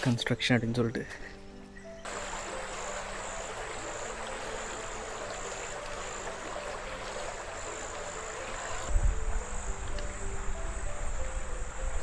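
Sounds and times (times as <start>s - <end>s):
soft background music: 0.0s - 12.0s
steady hiss: 2.1s - 12.0s.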